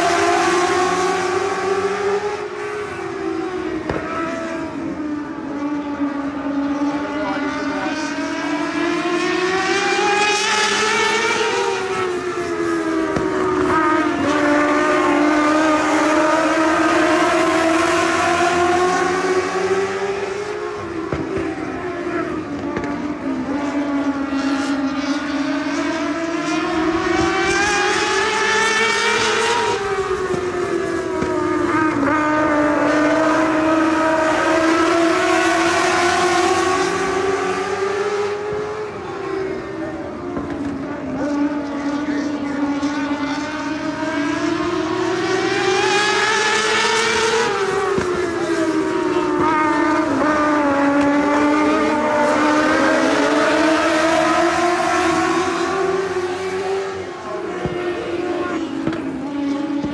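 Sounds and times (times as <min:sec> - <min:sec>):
race car engines racing: 0:00.0 - 0:59.9.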